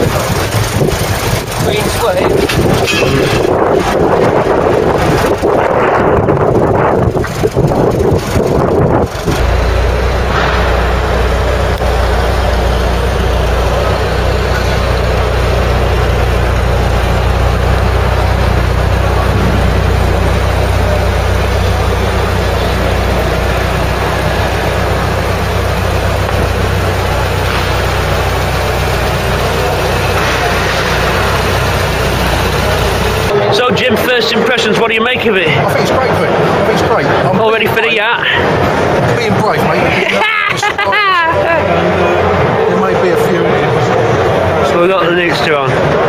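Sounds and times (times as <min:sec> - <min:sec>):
car engine idling: 0:00.0 - 0:40.1.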